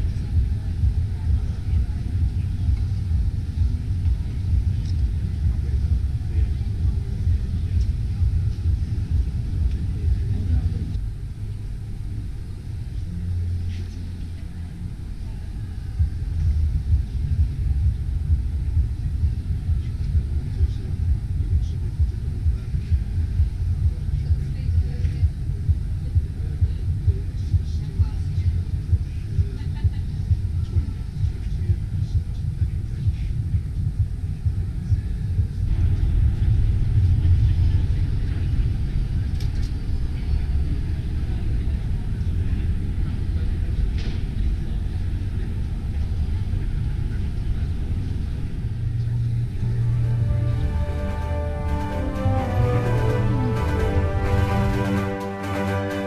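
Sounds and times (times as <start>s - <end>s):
low rumble of indoor hall: 0.0s - 56.0s.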